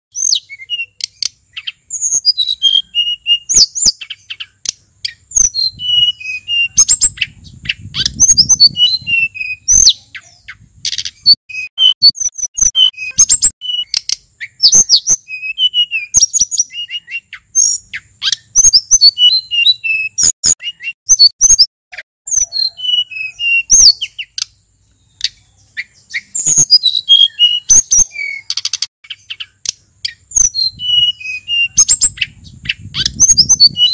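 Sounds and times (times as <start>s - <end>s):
songbird singing high chirps: 0.1s - 21.7s, 22.3s - 33.9s.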